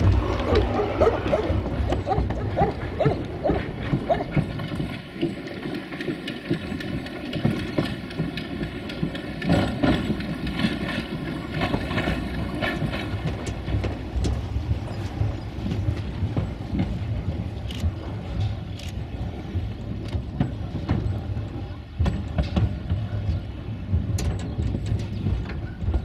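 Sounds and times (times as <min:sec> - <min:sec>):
steam locomotive exhaust beats: 0:00.0 - 0:26.0
wheels clattering over rails: 0:00.0 - 0:26.0.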